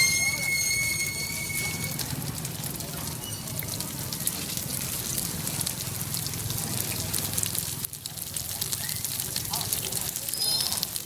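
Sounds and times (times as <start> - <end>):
crackling and spattering: 0.0 - 11.0.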